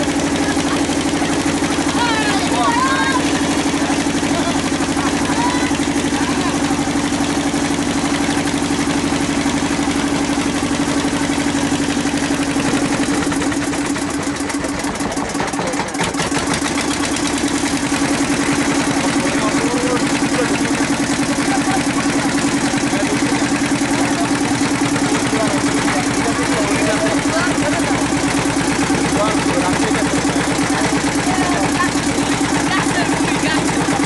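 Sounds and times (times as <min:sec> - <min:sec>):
engine running with pulsing hum: 0:00.0 - 0:34.0.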